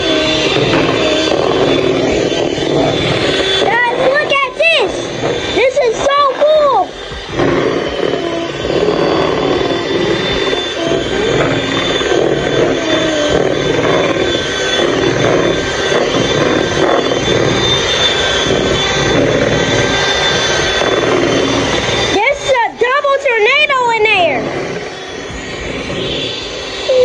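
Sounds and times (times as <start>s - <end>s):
electric hand mixer running: 0.0s - 27.0s.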